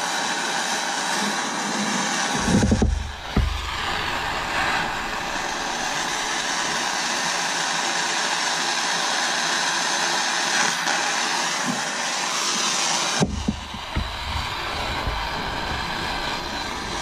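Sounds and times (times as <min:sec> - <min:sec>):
gas torch flame hissing: 0:00.0 - 0:17.0.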